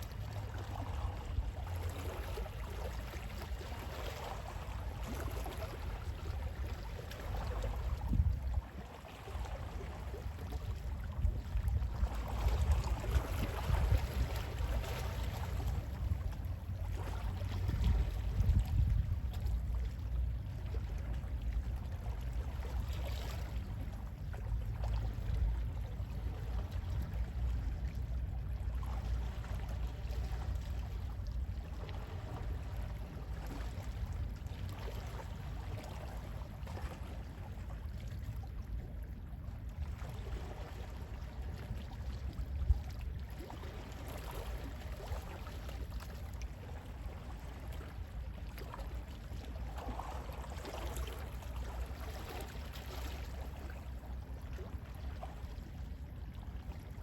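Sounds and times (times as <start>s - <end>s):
low rumble of sea wind: 0.0s - 57.0s
sea waves lapping: 0.0s - 57.0s.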